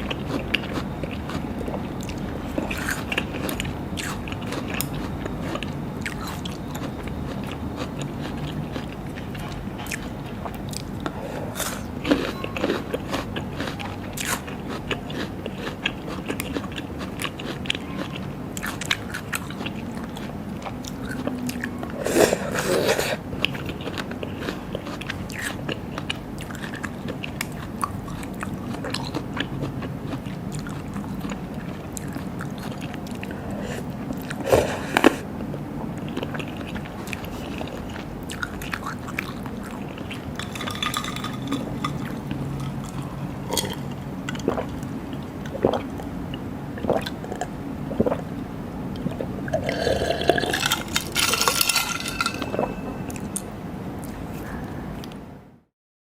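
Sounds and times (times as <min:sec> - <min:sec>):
chewing and crunching seafood: 0:00.0 - 0:48.3, 0:48.9 - 0:55.2.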